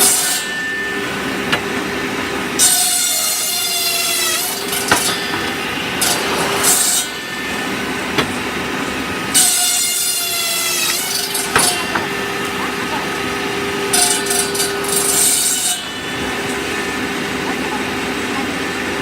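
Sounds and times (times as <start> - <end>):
circular saw blade whining: 0.0 - 19.0.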